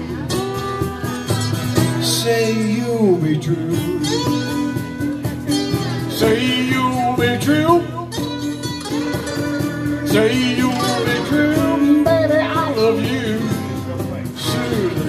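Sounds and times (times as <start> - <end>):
electric guitar: 0.0 - 15.0
slide guitar gliding: 0.0 - 15.0
strummed acoustic guitar: 0.0 - 15.0.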